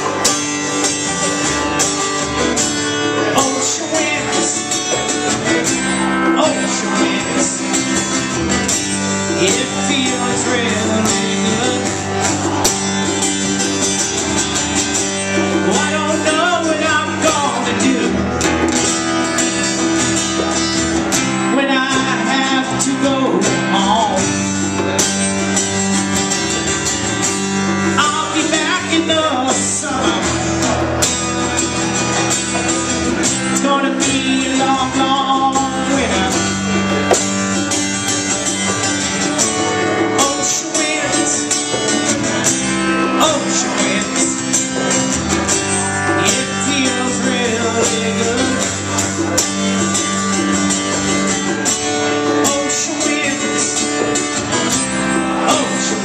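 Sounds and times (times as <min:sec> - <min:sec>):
hand drums: 0:00.0 - 0:56.0
plucked upright bass: 0:00.0 - 0:56.0
strummed acoustic guitar: 0:00.0 - 0:56.0.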